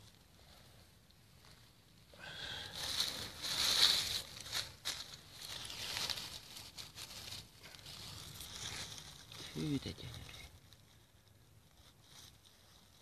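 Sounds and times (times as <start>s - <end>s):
dry leaves rustling: 1.3s - 13.0s.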